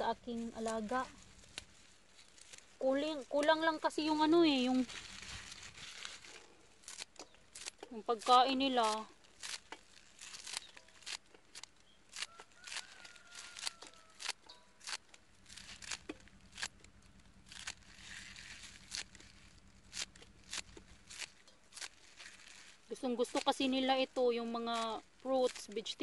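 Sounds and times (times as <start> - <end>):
grass being torn by hand: 0.1 - 26.0.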